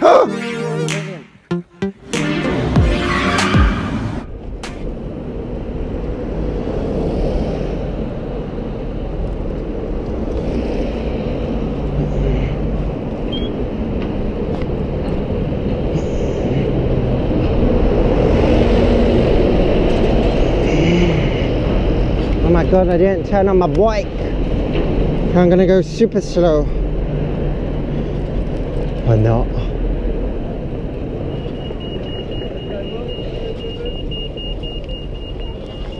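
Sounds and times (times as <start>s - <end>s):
road traffic noise: 0.0s - 35.9s.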